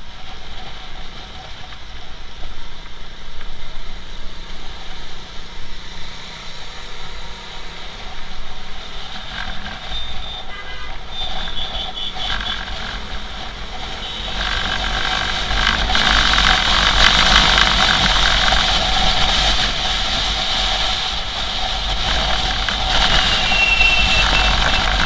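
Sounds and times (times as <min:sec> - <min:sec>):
motorcycle engine: 0:00.0 - 0:25.0
wind rumbling on microphone: 0:00.0 - 0:25.0.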